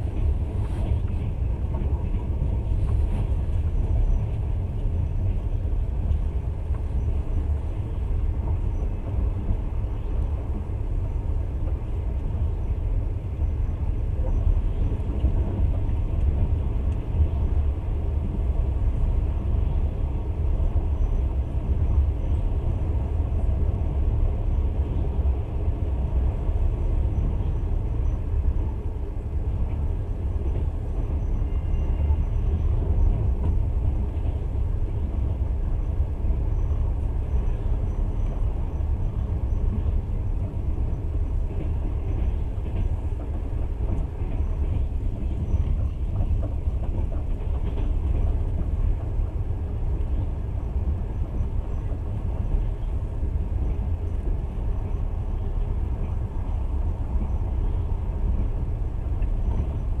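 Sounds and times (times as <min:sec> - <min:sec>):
train wheels rumbling on rails: 0:00.0 - 1:00.0.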